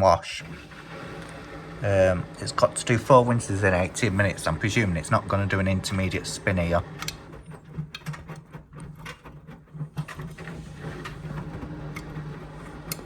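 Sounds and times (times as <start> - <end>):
drain pump humming: 0.0 - 13.0.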